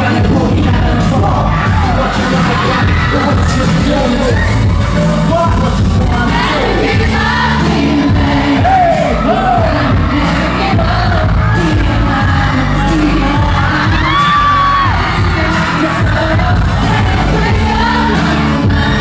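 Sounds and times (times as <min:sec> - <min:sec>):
bass-heavy backing track: 0:00.0 - 0:19.0
man singing into a microphone: 0:00.0 - 0:19.0.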